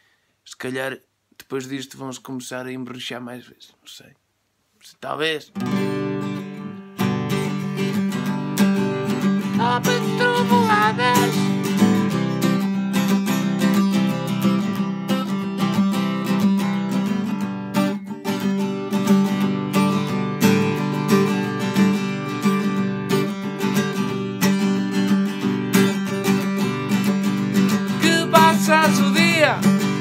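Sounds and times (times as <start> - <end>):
acoustic guitar strumming: 5.6 - 30.0.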